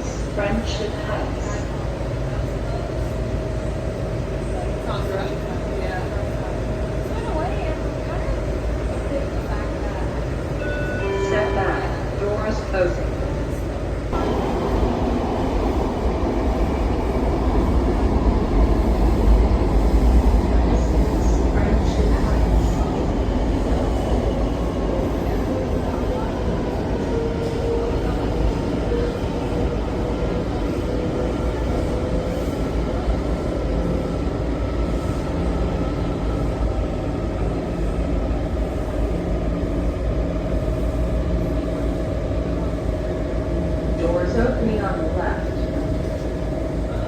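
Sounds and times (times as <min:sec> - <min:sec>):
train rumble and rail noise: 0:00.0 - 0:47.0.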